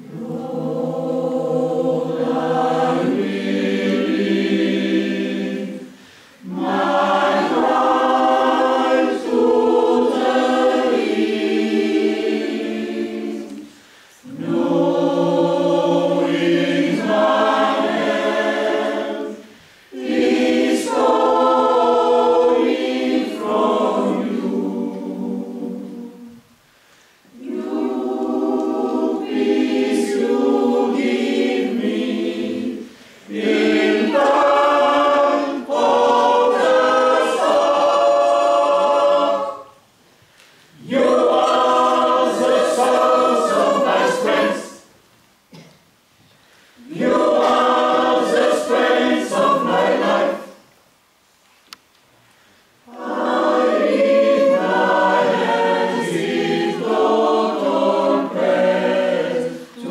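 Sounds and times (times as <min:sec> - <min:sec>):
mixed choir singing: 0:00.0 - 0:26.6, 0:27.2 - 0:39.9, 0:40.7 - 0:45.7, 0:46.8 - 0:50.7, 0:52.8 - 0:59.9.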